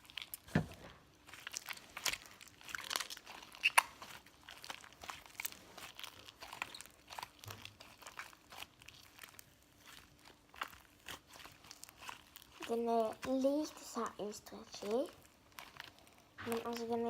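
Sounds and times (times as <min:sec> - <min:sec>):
slime crackles and sticky pops: 0:00.0 - 0:17.0
slime squished by hand: 0:00.0 - 0:17.0.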